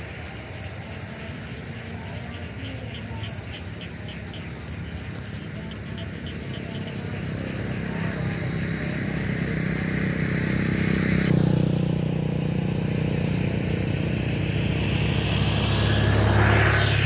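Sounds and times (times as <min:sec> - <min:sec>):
traffic noise: 0:00.0 - 0:17.0
vehicle engine running: 0:02.3 - 0:17.0.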